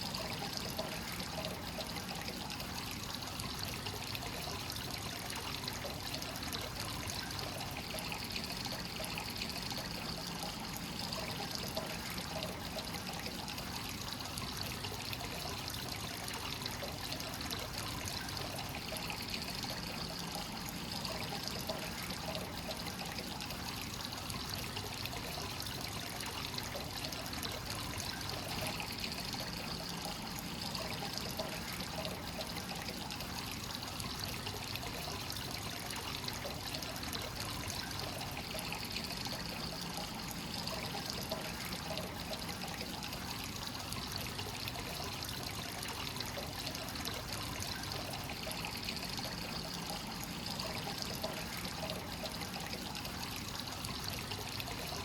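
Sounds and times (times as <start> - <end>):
hot spring water pouring into bath: 0.0 - 55.0.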